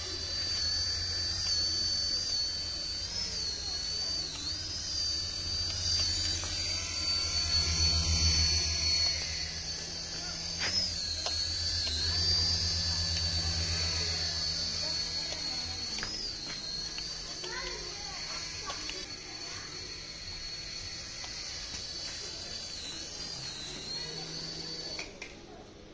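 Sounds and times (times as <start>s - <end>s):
rotor blades fluttering buzz: 0.0s - 25.9s
toy helicopter motor whine: 0.0s - 25.9s.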